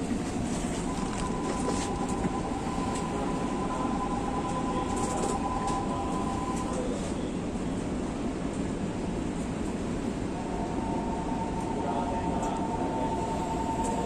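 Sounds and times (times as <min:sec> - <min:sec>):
steady whine: 0:00.0 - 0:07.6, 0:10.1 - 0:14.0
train cab rumble and hiss: 0:00.0 - 0:14.0.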